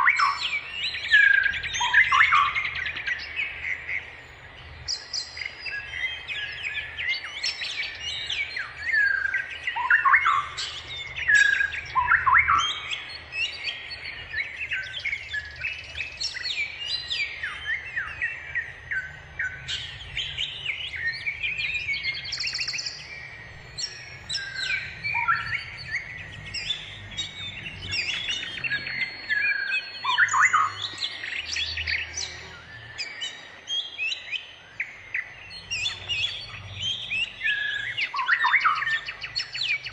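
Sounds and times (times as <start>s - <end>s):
low whistled bird notes: 0.0s - 39.9s
songbirds singing: 0.0s - 39.9s.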